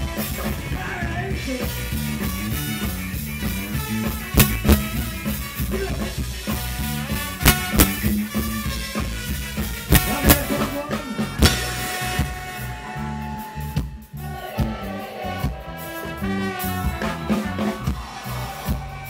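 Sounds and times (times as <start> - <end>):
drums: 0.0 - 19.0
electric guitar: 0.0 - 19.0
horn section: 0.0 - 19.0.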